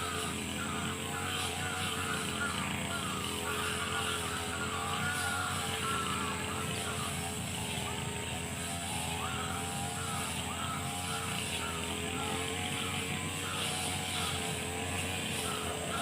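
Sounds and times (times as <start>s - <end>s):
brush cutter engine cutting grass: 0.0s - 16.0s.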